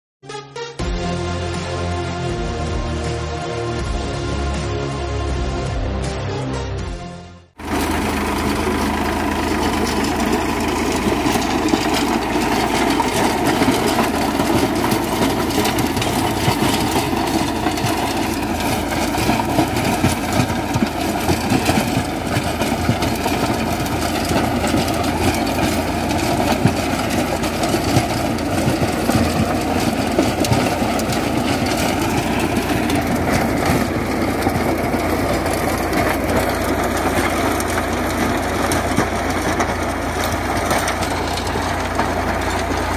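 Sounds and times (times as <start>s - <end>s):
rotary tiller churning soil: 7.6s - 42.9s
tractor engine running under load: 7.6s - 42.9s.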